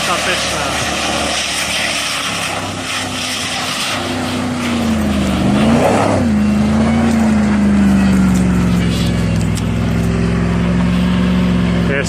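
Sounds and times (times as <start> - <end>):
engine running hard: 0.0 - 12.0.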